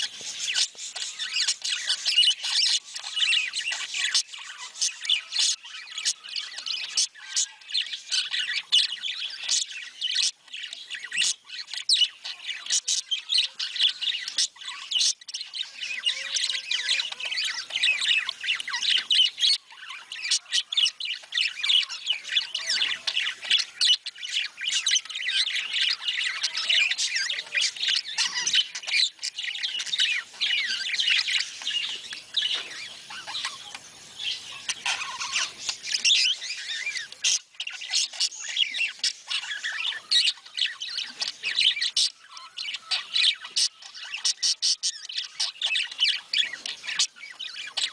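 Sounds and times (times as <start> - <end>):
budgerigars chattering: 0.0 - 47.9.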